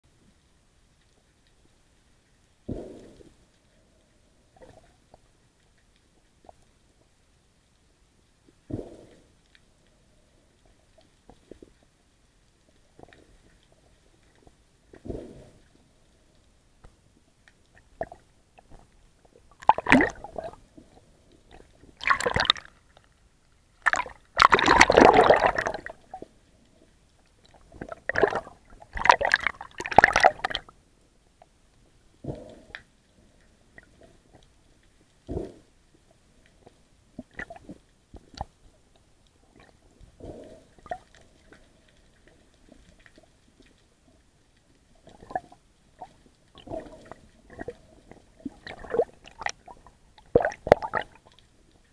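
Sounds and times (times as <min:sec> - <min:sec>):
water sloshing underwater: 0:00.3 - 0:51.9.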